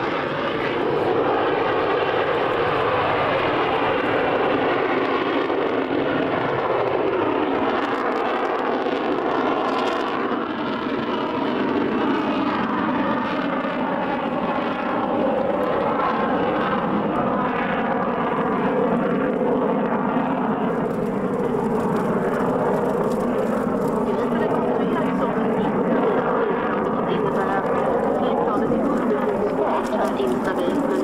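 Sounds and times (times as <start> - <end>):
jet engine rushing: 0.0 - 31.0.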